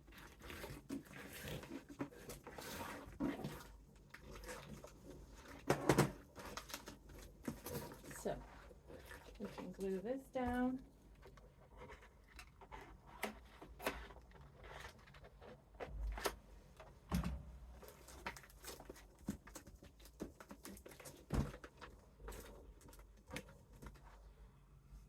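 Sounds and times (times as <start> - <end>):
cardboard handling taps and rustles: 0.1 - 24.2.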